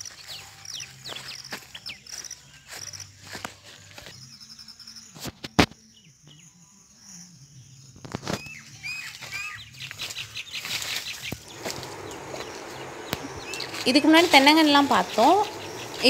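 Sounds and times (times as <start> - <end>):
bird chirping: 0.0 - 3.2, 5.8 - 16.0.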